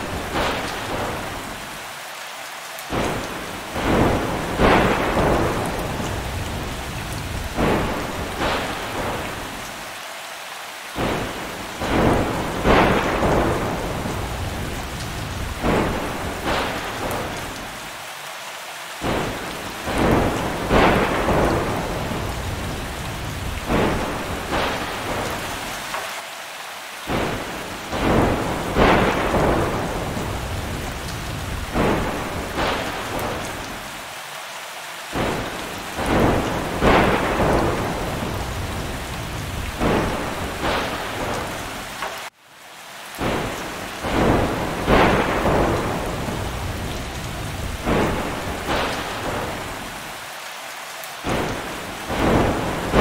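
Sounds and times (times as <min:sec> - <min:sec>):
thunder cracking and rumbling: 0:00.0 - 0:01.7, 0:02.9 - 0:09.7, 0:11.0 - 0:17.9, 0:19.0 - 0:26.0, 0:27.1 - 0:33.9, 0:35.1 - 0:42.3, 0:43.2 - 0:50.2, 0:51.2 - 0:53.0
heavy rain: 0:00.0 - 0:53.0.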